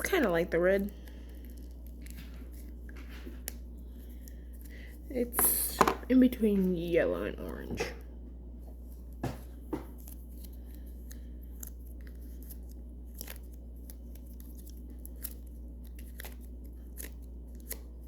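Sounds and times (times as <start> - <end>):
sticky dough clicking and crackling: 0.0 - 7.9, 8.8 - 18.0
steady low hum: 0.0 - 18.0.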